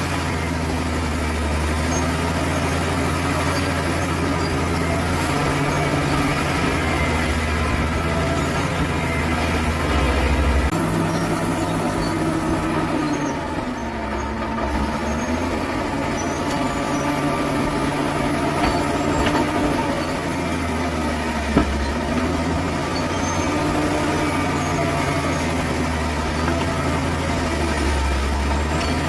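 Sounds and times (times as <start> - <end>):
diesel engine under load: 0.0 - 29.0.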